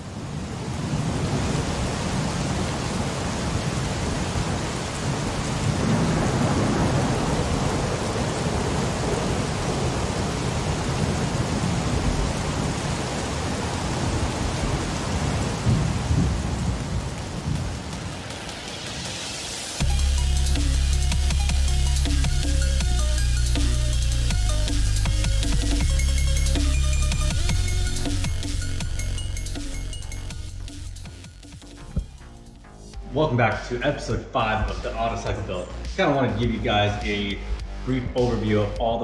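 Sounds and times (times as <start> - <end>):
heavy rain hiss: 0.0 - 39.0.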